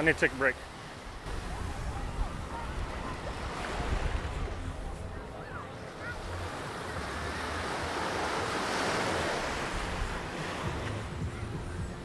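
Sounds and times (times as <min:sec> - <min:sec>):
small waves washing up beach: 0:00.0 - 0:12.0.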